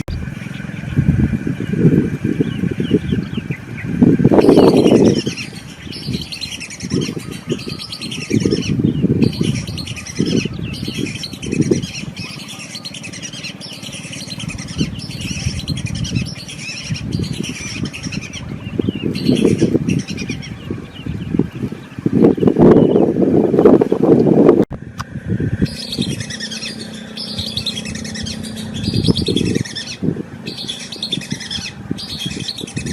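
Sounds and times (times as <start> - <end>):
birds chirping: 0.0 - 24.6, 25.5 - 32.9
low rumbling: 0.0 - 32.9.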